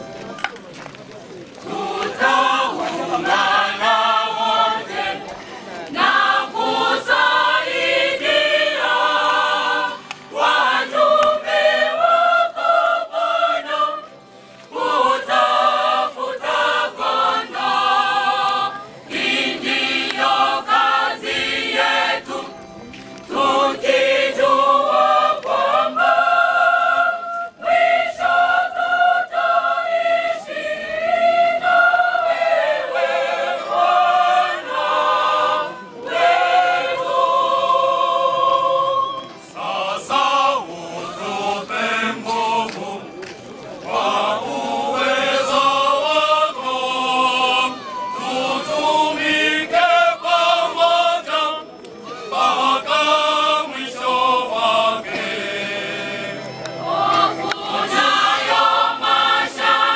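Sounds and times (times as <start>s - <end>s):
choir singing: 1.6s - 59.9s.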